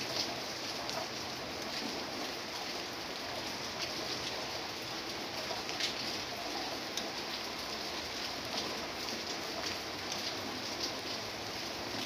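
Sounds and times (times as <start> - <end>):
rain falling on leaves: 0.0 - 12.0.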